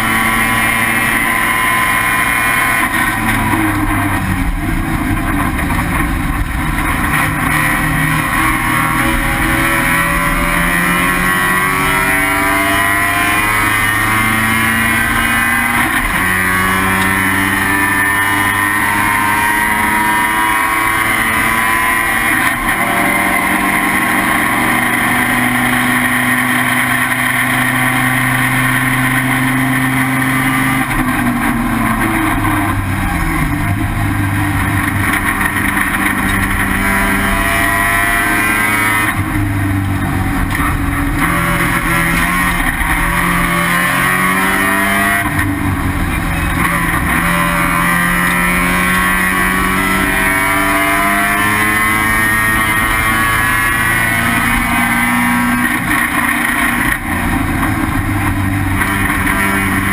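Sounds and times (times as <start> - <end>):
rotary engine revving: 0.0 - 59.9.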